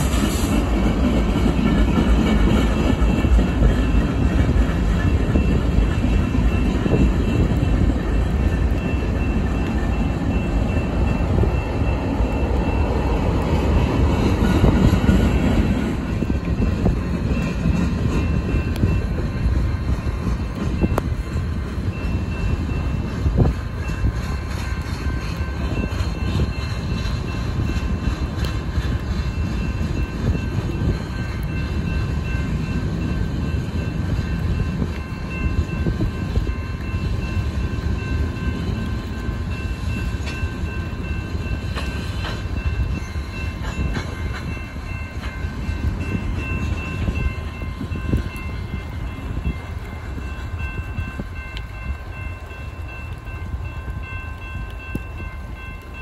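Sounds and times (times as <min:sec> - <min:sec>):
crossing warning bell: 0:00.0 - 0:56.0
train wheels rumbling on rail: 0:00.0 - 0:56.0.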